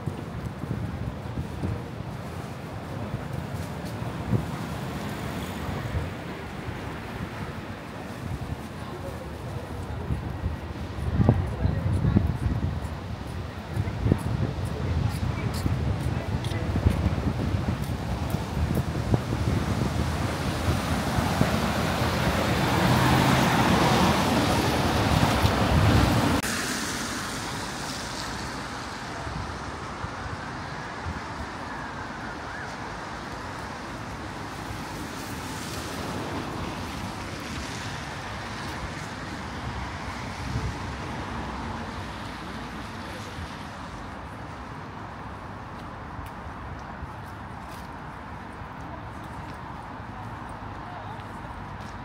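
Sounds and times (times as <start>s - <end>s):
distant traffic hum: 0.0s - 52.0s
vehicles passing: 0.0s - 52.0s.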